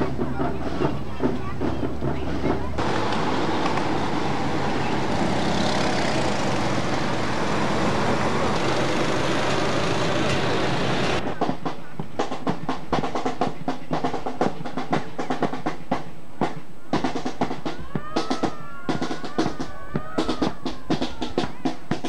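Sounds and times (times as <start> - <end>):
dense wash of parade noise: 0.0 - 22.0
marching band drumline: 0.0 - 22.0.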